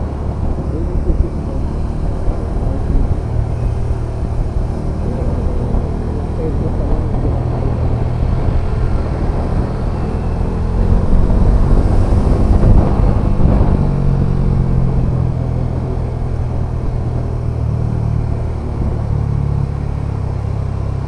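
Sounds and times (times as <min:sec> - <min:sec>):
motorcycle engine running: 0:00.0 - 0:21.0
road rumble: 0:00.0 - 0:21.0
wind: 0:00.0 - 0:21.0.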